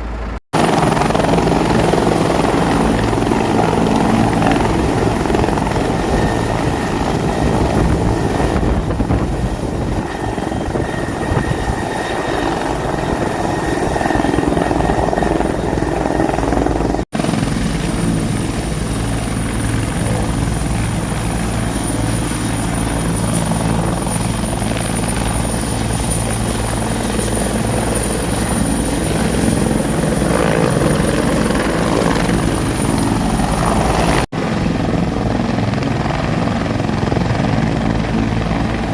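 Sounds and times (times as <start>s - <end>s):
turbine whine: 0.0s - 36.2s
helicopter rotor beat: 0.0s - 38.9s.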